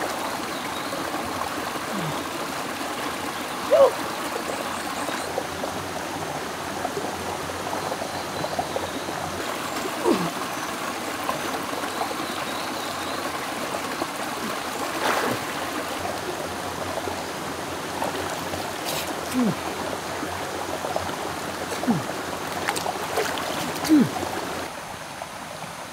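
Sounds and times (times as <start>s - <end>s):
rocky stream flowing: 0.0s - 25.9s.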